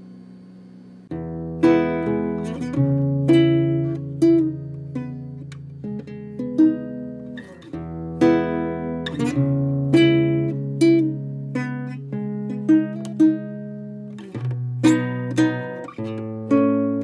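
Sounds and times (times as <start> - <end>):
held bass notes: 1.1 - 17.0
plucked guitar picking notes: 1.1 - 17.0.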